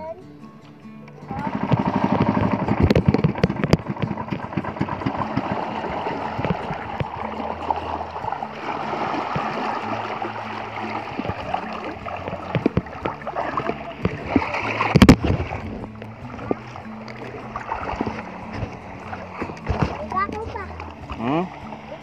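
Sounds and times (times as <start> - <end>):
low steady hum: 1.0 - 22.0
water sloshing against hull: 1.2 - 22.0.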